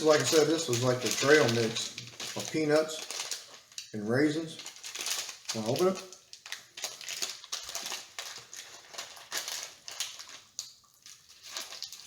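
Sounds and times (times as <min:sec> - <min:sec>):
food pouch crinkling: 0:00.0 - 0:12.0.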